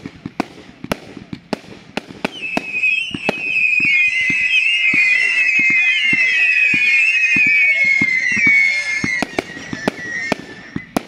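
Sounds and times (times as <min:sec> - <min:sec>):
firework bangs: 0:00.0 - 0:11.0
whistling fireworks: 0:00.0 - 0:11.0.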